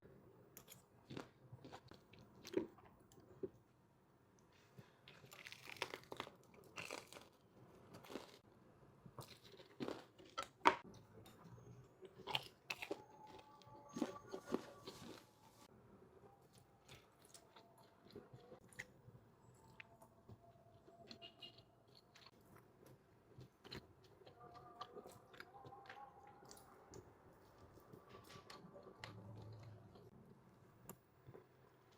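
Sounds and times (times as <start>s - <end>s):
person chewing food: 0.6s - 3.6s, 5.0s - 8.5s, 9.2s - 15.7s, 16.4s - 30.2s.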